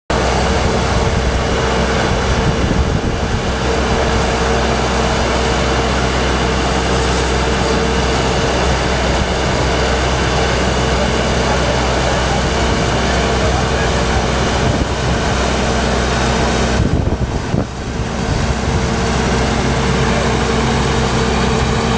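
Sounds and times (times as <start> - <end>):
engine-driven machine humming: 0.1 - 21.9.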